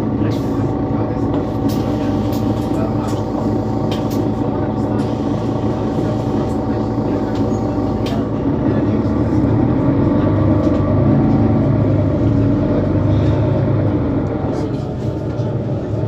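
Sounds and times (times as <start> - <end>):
bus diesel engine driving: 0.0 - 16.0.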